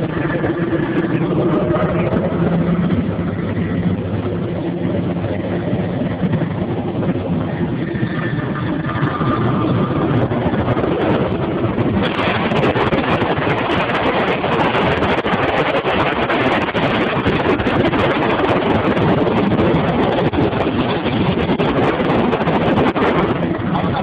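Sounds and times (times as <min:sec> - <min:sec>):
helicopter rotor and engine noise: 0:00.0 - 0:24.0
wind buffeting microphone: 0:00.0 - 0:24.0.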